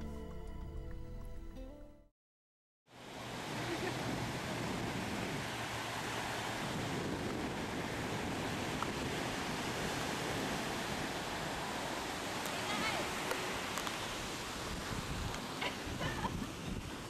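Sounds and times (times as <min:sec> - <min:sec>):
ocean surf breaking on beach: 0:02.9 - 0:17.0.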